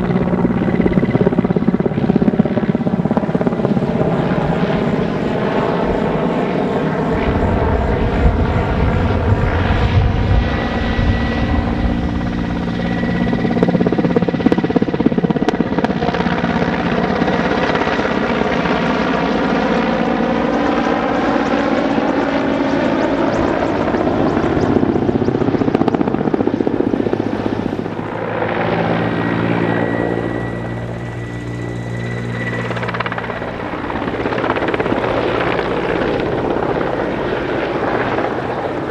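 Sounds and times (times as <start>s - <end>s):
helicopter rotor beat: 0.0s - 38.9s
turbine engine whine: 0.0s - 38.9s.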